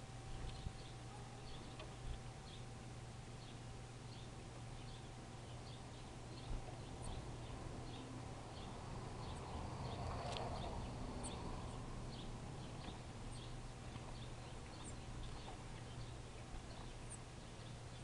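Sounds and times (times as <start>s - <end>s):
small songbirds chirping: 0.0s - 18.0s
steady low hum: 0.0s - 18.0s.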